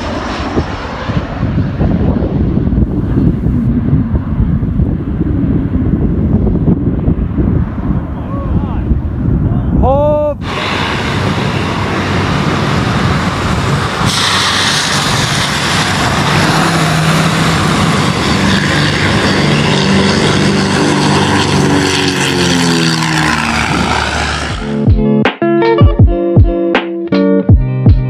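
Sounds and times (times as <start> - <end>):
propeller plane engines droning: 0.0 - 25.0
steady rushing noise: 0.0 - 25.1.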